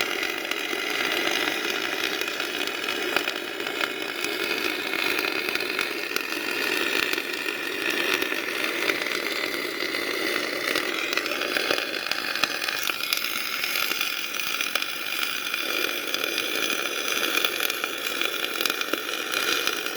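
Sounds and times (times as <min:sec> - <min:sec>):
welder arc crackling: 0:00.0 - 0:19.9.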